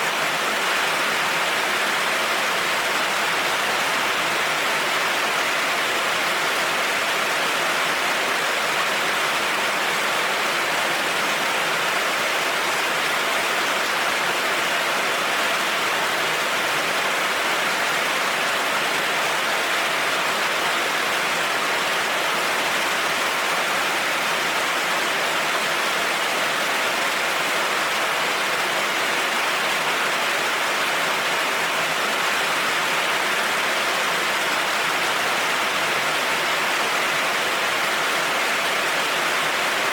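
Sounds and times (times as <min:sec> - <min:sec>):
heavy rain on ground: 0:00.0 - 0:39.9.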